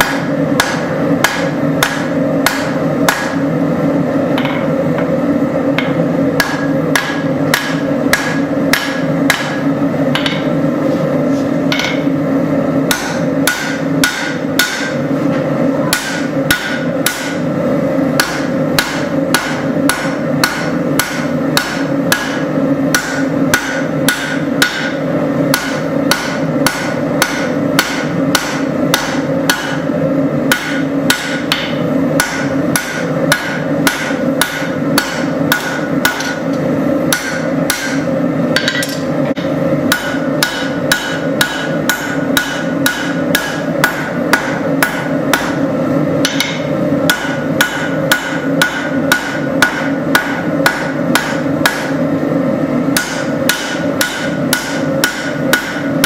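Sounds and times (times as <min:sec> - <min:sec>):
hammer striking steel on anvil: 0:00.0 - 0:03.5, 0:04.3 - 0:10.6, 0:11.7 - 0:12.2, 0:12.8 - 0:15.1, 0:15.8 - 0:17.5, 0:18.1 - 0:52.0, 0:52.9 - 0:56.0.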